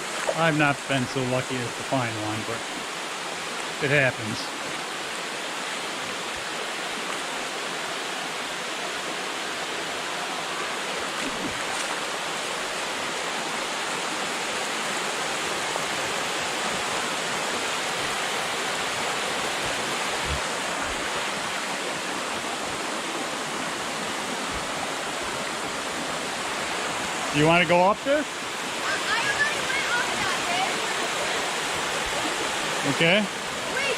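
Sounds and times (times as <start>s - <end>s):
waterfall rushing over rocks: 0.0s - 33.9s.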